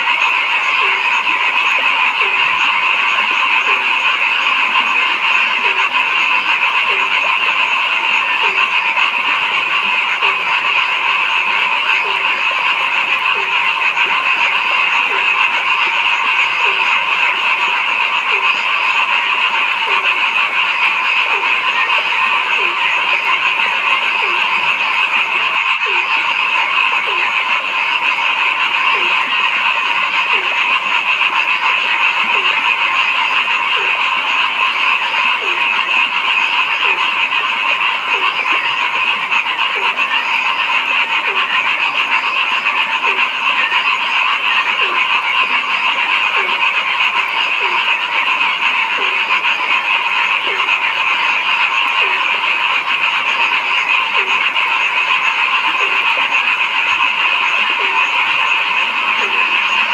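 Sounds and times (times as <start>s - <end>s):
frogs chorus: 0.0s - 59.9s
low frog croak: 0.0s - 59.9s.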